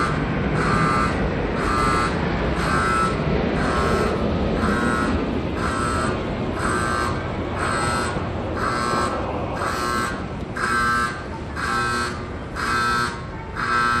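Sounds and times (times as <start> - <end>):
pulsing alarm buzzer: 0.0 - 14.0
steady low rumble: 0.0 - 14.0.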